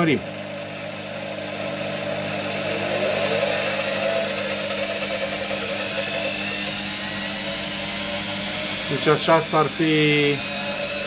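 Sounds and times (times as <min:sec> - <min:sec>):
wood lathe motor whine: 0:00.0 - 0:11.0.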